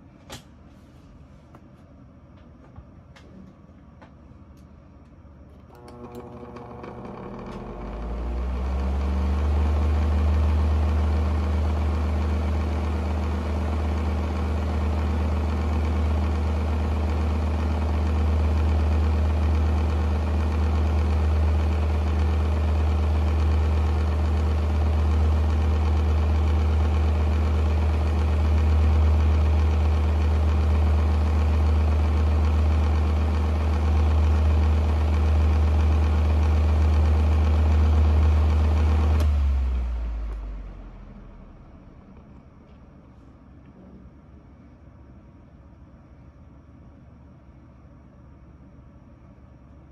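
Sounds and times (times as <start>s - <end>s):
table fan humming: 0.0s - 46.5s.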